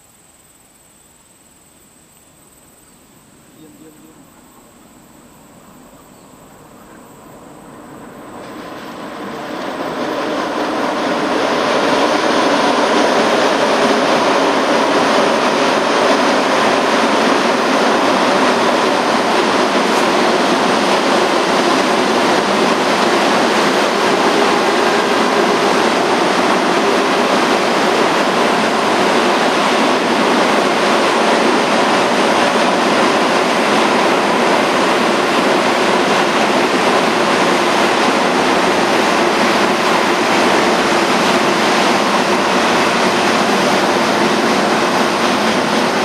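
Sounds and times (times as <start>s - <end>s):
train crossing a steel bridge: 2.6s - 46.0s.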